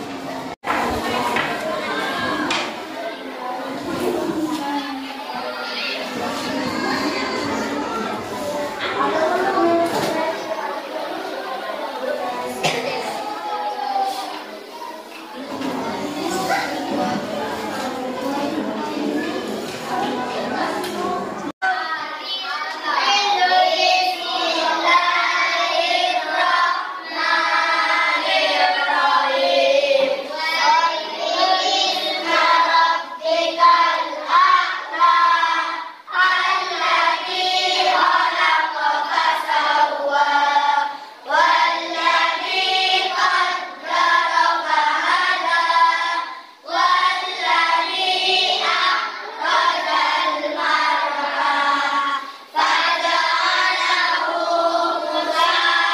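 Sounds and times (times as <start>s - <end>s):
children singing together: 0.0s - 55.9s.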